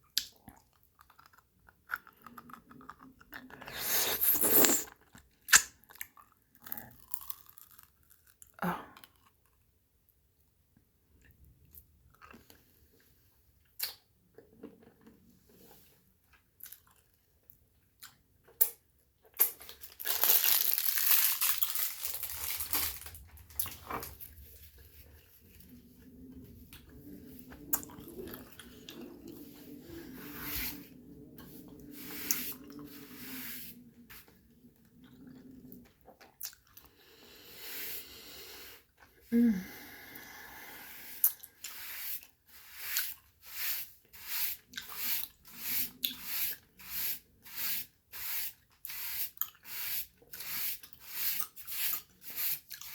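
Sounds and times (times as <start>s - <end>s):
close chewing and mouth sounds: 0.0s - 52.9s.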